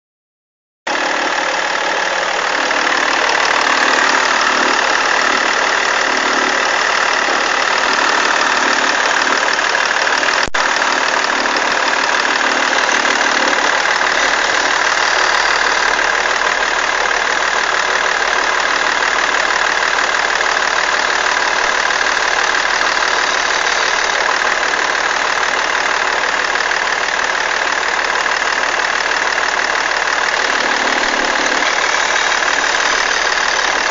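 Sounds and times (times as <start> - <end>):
diesel engine idling: 0.9 - 33.9
belt tensioner noise: 2.4 - 33.9.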